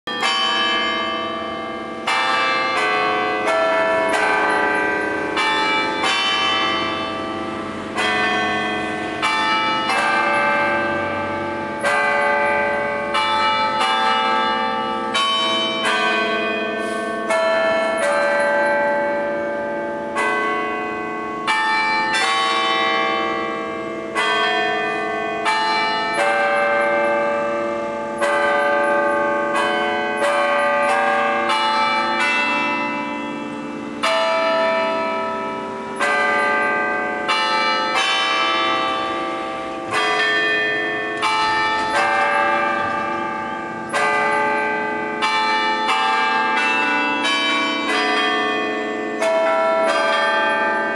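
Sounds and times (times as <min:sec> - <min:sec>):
tower bells ringing a tune: 0:00.1 - 0:50.9.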